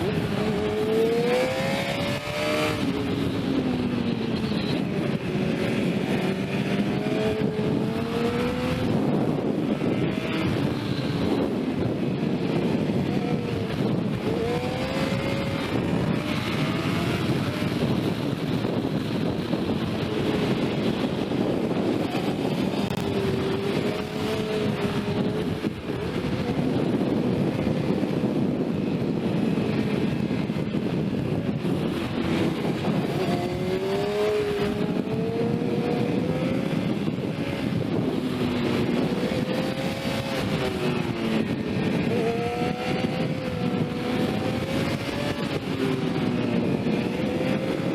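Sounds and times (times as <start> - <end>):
motorcycle engine revving: 0.0 - 47.9
wind rush: 0.0 - 47.9.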